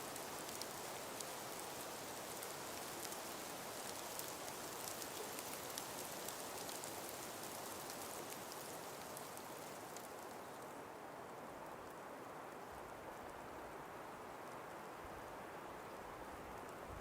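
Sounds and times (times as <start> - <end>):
light pattering ticks: 0.0 - 10.8, 11.6 - 13.5, 14.2 - 15.0, 15.7 - 16.9
breeze through forest: 0.0 - 17.0.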